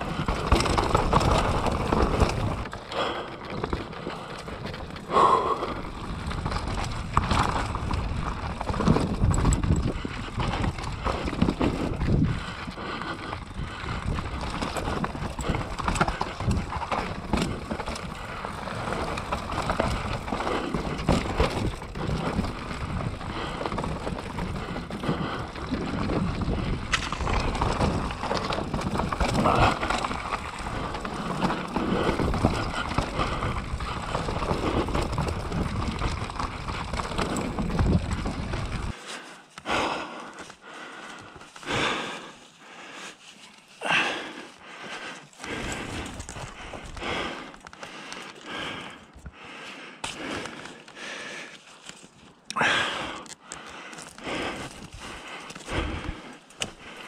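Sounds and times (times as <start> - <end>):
bike knocking and rattling: 0.0 - 57.0
bike tyres rolling over dirt: 0.0 - 57.0.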